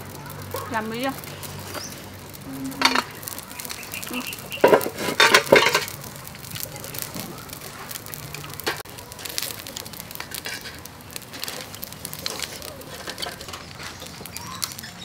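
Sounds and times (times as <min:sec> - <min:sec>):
food sizzling and crackling on grill: 0:00.0 - 0:15.0.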